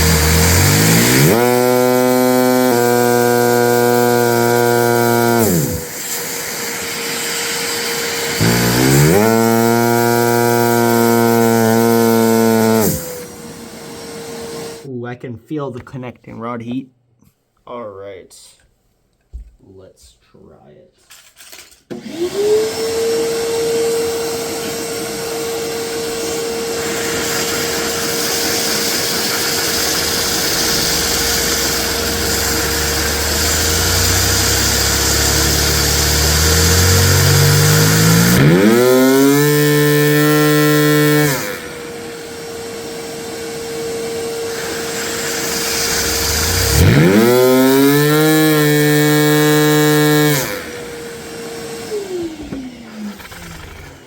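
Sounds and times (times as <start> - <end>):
small engine high-revving buzz: 0.0 - 14.8, 21.9 - 54.0
vacuum cleaner whine: 0.0 - 14.9, 21.9 - 54.0.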